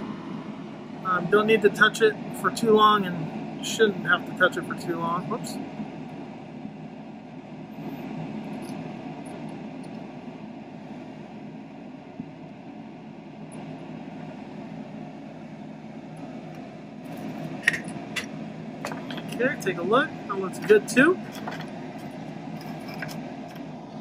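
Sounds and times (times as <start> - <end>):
fan-like hum: 0.0 - 24.0.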